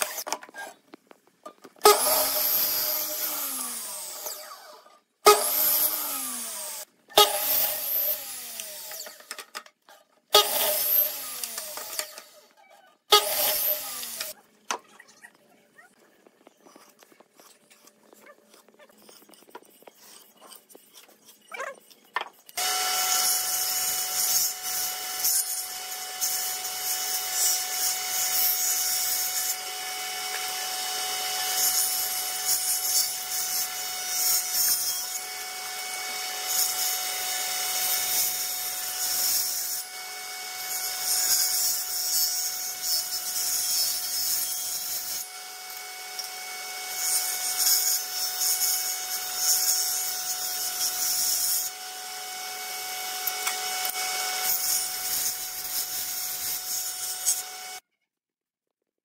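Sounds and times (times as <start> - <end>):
table saw cutting wood: 0.0 - 0.4, 1.8 - 9.4, 10.3 - 14.4, 19.1 - 57.8.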